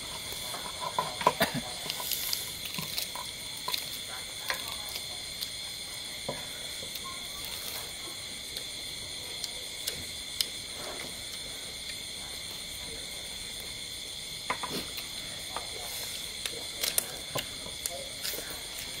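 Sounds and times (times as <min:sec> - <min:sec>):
night insects chorus: 0:00.0 - 0:19.0
people eating and chewing: 0:00.0 - 0:19.0.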